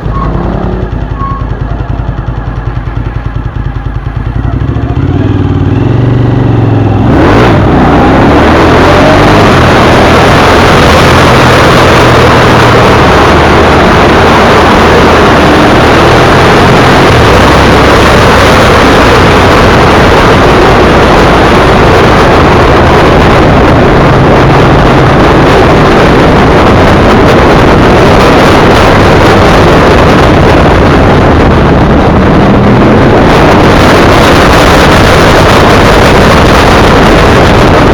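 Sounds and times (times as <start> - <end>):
loud wind rush: 0.0 - 4.0, 4.8 - 37.9
motorcycle engine accelerating: 0.0 - 37.9.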